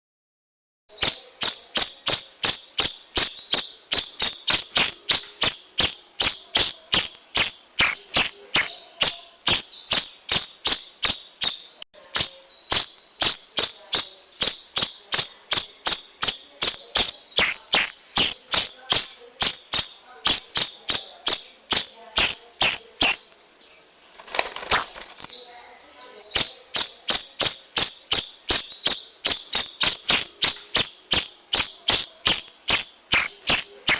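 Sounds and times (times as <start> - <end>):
songbird chirping song: 0.9 - 33.9.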